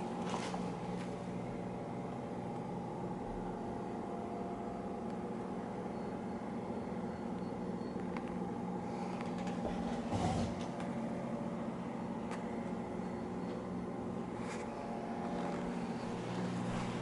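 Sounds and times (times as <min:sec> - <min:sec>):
appliance humming: 0:00.0 - 0:17.0.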